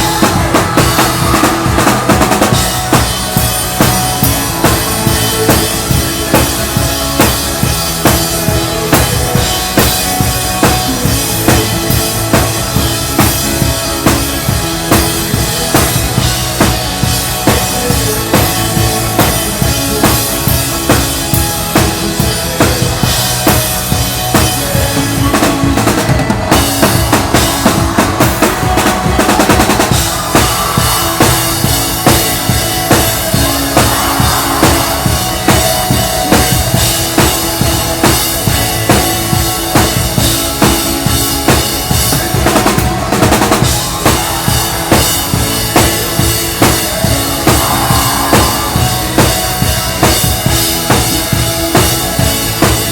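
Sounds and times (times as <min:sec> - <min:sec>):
band music: 0:00.0 - 0:52.9
drum kit beat: 0:00.0 - 0:52.9.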